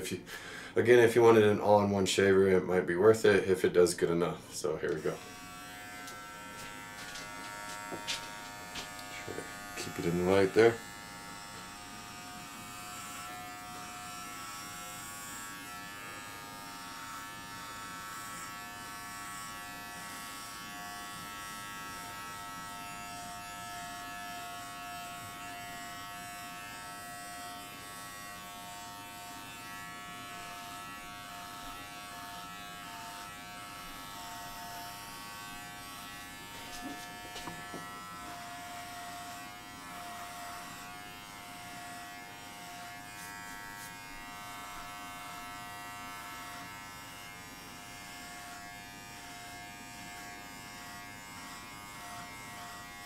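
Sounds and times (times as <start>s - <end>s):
electric trimmer buzzing: 4.6s - 53.0s.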